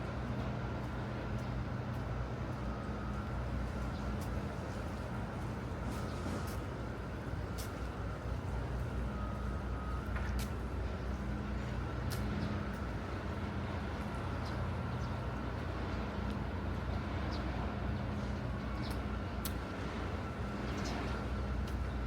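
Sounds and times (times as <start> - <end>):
city traffic hum: 0.0 - 22.0.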